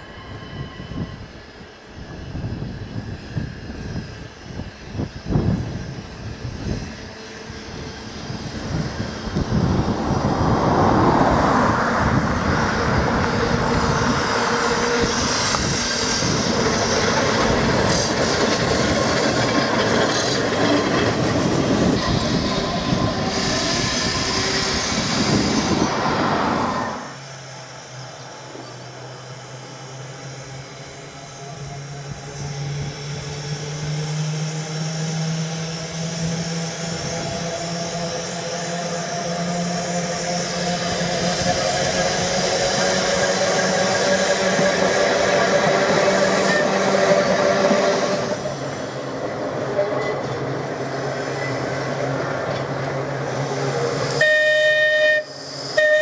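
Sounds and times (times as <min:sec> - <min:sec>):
tram wheels clattering and squealing: 0:00.0 - 0:56.0.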